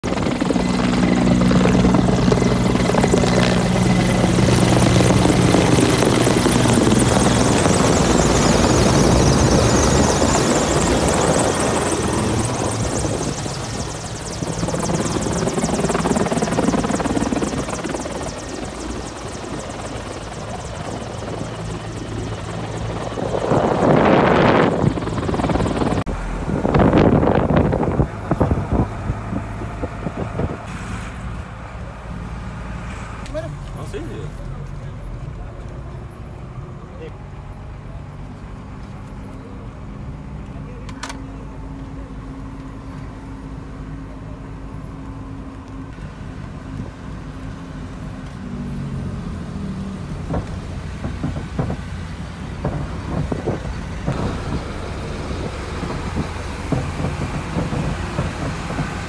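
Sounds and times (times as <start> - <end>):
helicopter rotor and engines: 0.0 - 59.0.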